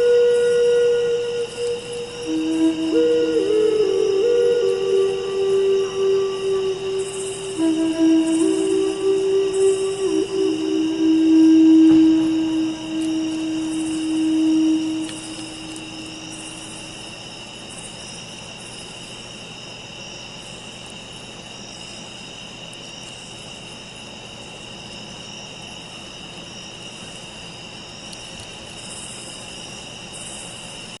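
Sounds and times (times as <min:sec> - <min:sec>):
crickets and insects trilling: 0:00.0 - 0:31.0.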